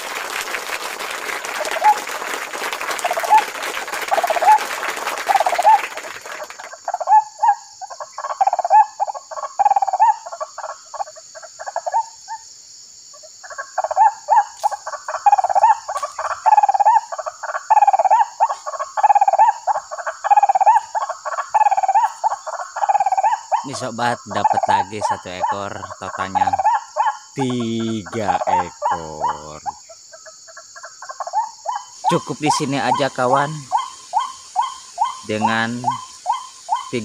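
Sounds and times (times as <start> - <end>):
high insect drone: 0.0 - 37.0
waterhen calls: 3.0 - 4.6, 5.2 - 12.4, 13.4 - 37.0.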